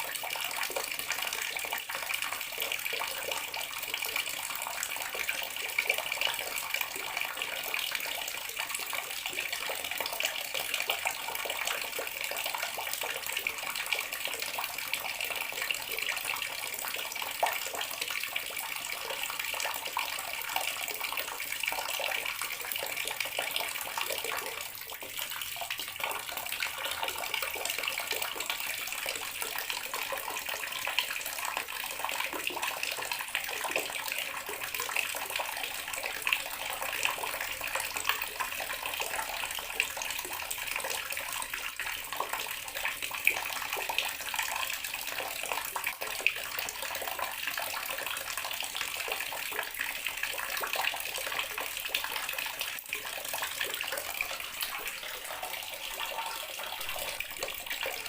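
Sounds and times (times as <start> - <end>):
tap water splashing into basin: 0.0 - 58.0.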